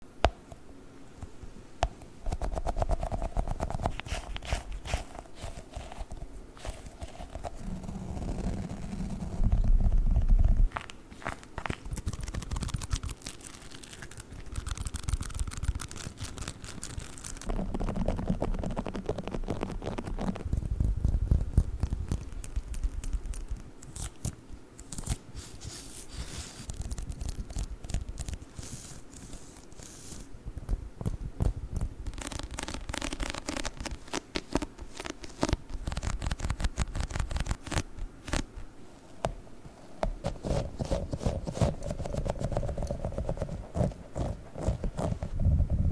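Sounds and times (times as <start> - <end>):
sticky crackling and peeling: 2.4 - 38.7, 40.2 - 45.5.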